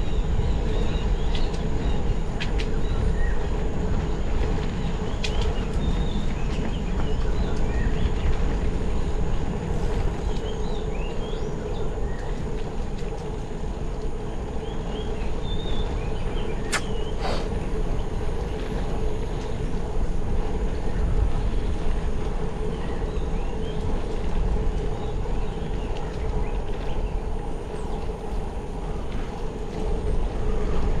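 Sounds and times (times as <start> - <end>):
faint constant hum: 0.0 - 31.0
wind on microphone: 0.0 - 31.0.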